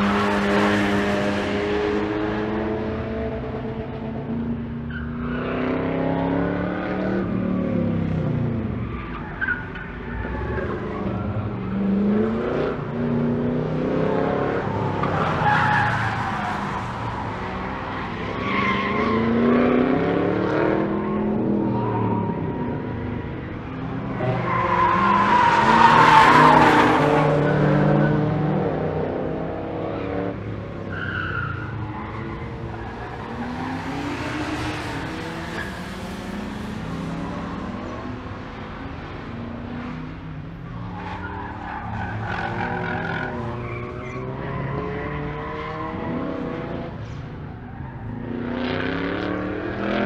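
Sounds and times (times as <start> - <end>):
race car engines passing: 0.0 - 50.0.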